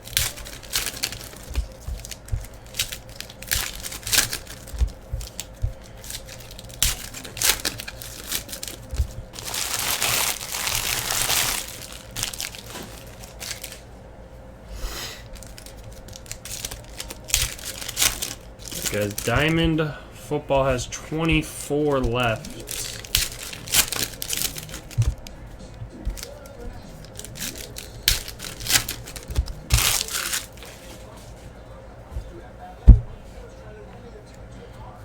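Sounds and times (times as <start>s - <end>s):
wrapper tearing: 0.0s - 13.8s, 15.2s - 19.9s, 20.8s - 25.4s, 26.0s - 31.0s
card wrappers crinkling: 0.0s - 13.9s, 15.2s - 31.4s
cards clicking and rustling: 0.0s - 13.9s, 15.2s - 31.2s.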